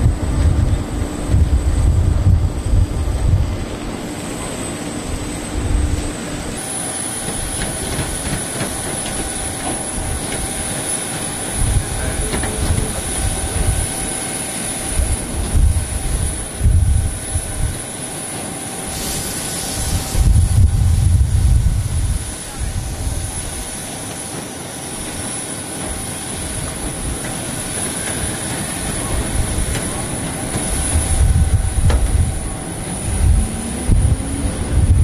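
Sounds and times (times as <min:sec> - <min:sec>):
wind buffeting microphone: 0:00.0 - 0:06.6, 0:07.2 - 0:18.0, 0:18.6 - 0:35.0
jet engine high-pitched whine: 0:00.0 - 0:35.0.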